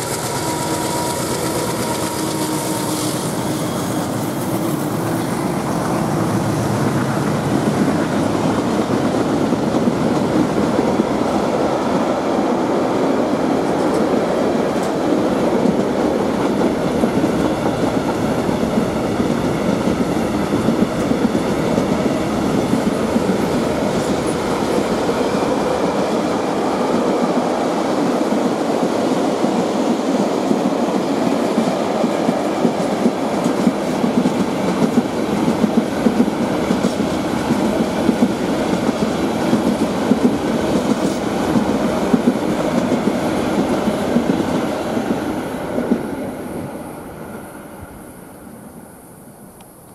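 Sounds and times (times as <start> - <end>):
deep locomotive sound: 0.0 - 47.1.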